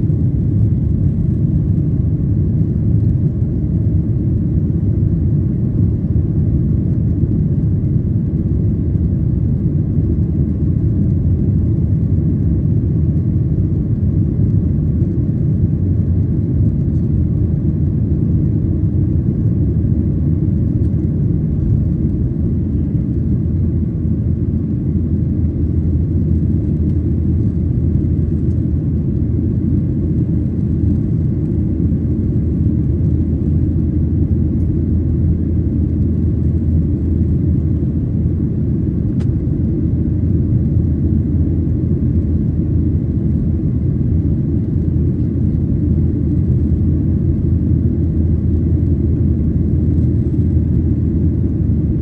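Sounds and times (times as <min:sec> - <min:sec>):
jet cabin low rumble: 0:00.0 - 0:52.0.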